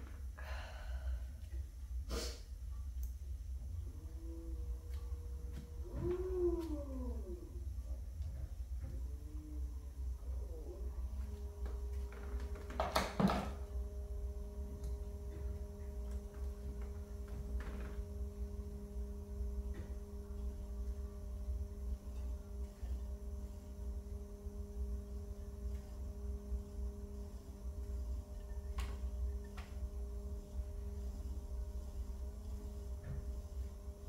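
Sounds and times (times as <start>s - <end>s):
pottery wheel motor hum: 0.0s - 34.0s.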